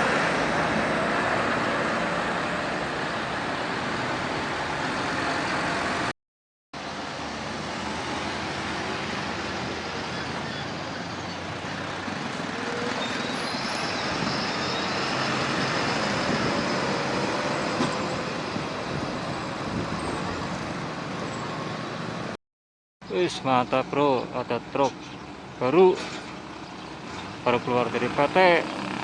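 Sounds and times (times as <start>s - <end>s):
highway traffic noise: 0.0s - 6.2s, 6.8s - 22.4s, 23.0s - 29.0s.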